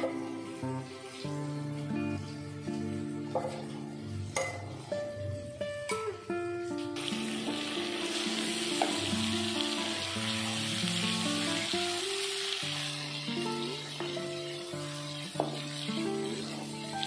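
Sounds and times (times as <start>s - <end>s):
garlic and shallots sizzling in oil: 0.0s - 17.0s.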